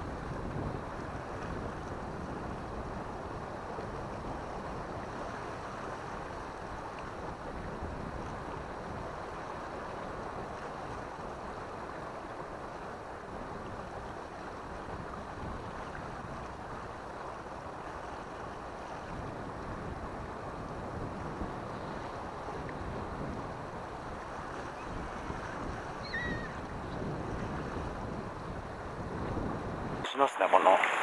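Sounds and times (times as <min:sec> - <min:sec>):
surf on rocky shore: 0:00.0 - 0:31.0
wind: 0:00.0 - 0:31.0.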